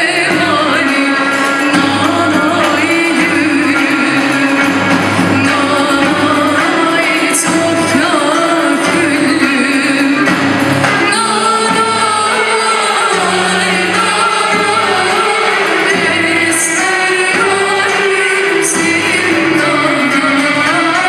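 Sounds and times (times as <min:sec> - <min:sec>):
folk ensemble playing: 0:00.0 - 0:21.0
woman singing folk song: 0:00.0 - 0:21.0.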